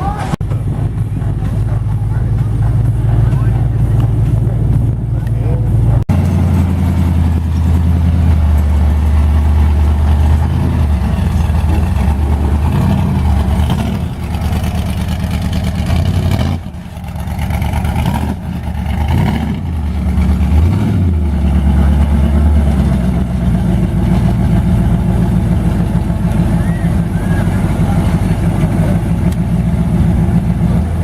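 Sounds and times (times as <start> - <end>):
racing vehicle engines revving: 0.0 - 31.0.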